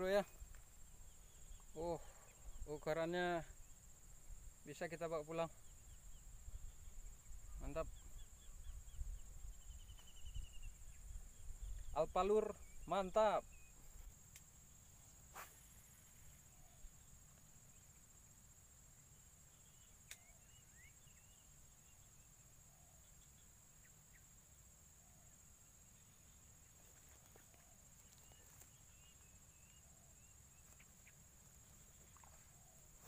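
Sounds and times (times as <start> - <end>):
faint bird chirps: 0.0 - 18.3, 19.0 - 33.0
insect trill: 0.0 - 33.0.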